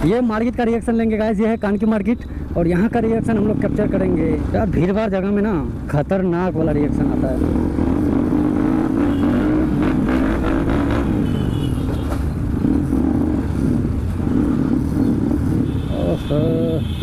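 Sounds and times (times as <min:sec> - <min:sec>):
low road rumble: 0:00.0 - 0:17.0.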